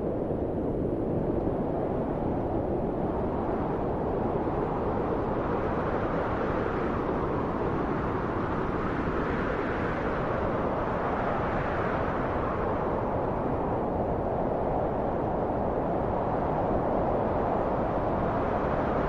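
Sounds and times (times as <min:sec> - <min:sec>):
steady wind blowing: 0:00.0 - 0:19.0.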